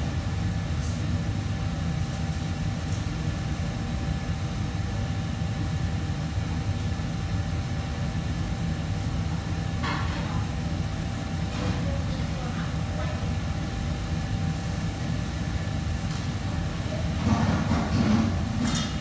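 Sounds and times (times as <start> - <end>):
kitchen fans rumbling: 0.0 - 19.0.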